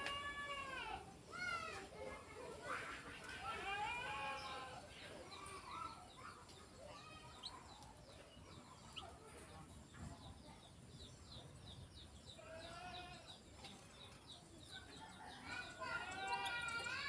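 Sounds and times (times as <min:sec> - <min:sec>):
canary chirping faintly: 0:01.3 - 0:17.0.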